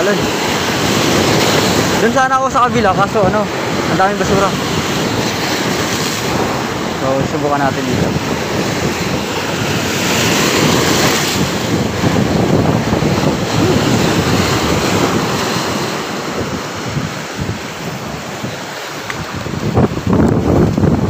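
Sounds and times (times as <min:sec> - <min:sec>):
surf breaking over seawall: 0:00.0 - 0:21.0
wind buffeting microphone: 0:00.0 - 0:21.0.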